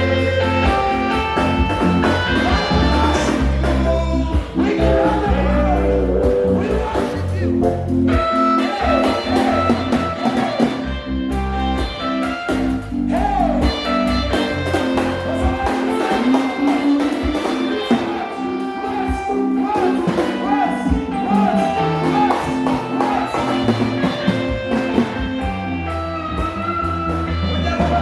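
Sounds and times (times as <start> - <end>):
held bass notes: 0.0 - 28.0
steady beat: 0.0 - 28.0
worship music with guitar: 0.0 - 28.0.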